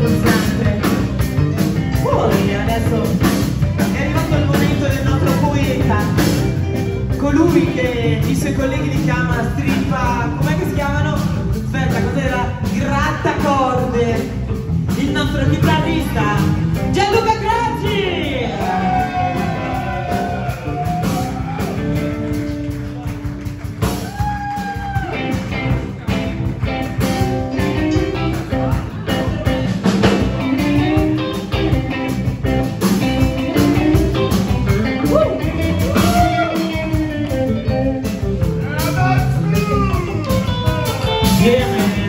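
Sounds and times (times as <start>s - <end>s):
live rock band: 0.0s - 42.0s.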